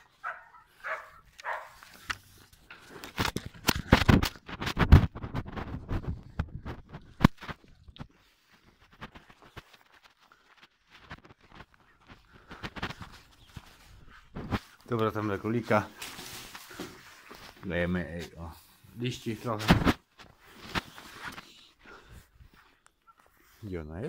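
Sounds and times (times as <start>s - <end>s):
footsteps crunching through snow: 0.0s - 3.2s, 4.4s - 24.0s.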